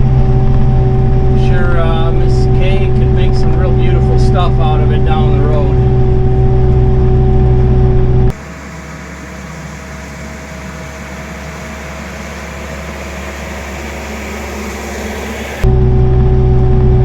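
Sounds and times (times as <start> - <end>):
hissy hum: 0.0 - 17.0
tractor diesel engine running: 0.0 - 17.0.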